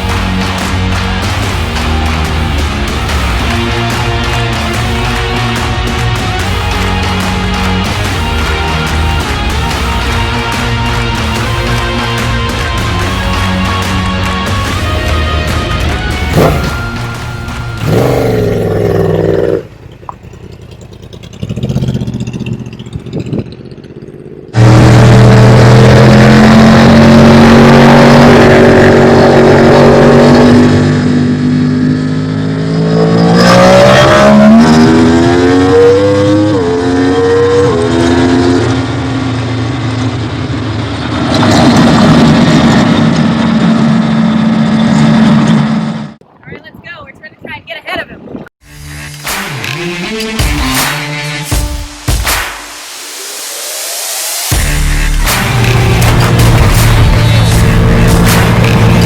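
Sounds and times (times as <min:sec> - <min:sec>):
vehicle engine shifting gears: 0:00.0 - 0:46.2, 0:53.6 - 0:59.0.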